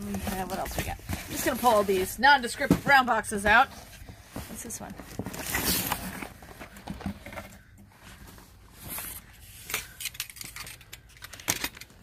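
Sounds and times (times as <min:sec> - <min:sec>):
cardboard boxes scraping and rustling: 0:00.0 - 0:09.7.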